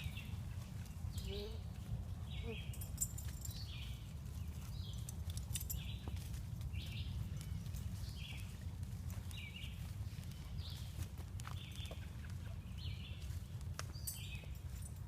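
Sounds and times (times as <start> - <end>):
footsteps through brush: 0.0 - 15.0.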